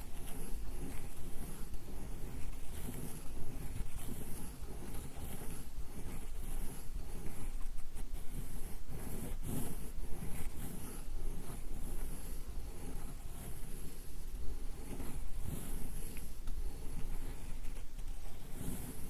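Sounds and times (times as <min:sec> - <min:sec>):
ink stick scraping on inkstone: 0:00.0 - 0:19.0.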